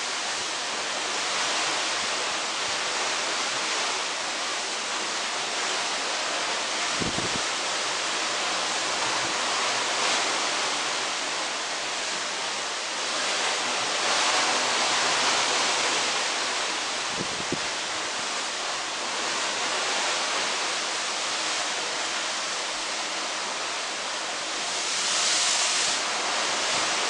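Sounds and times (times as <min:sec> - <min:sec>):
sea rushing: 0:00.0 - 0:27.0.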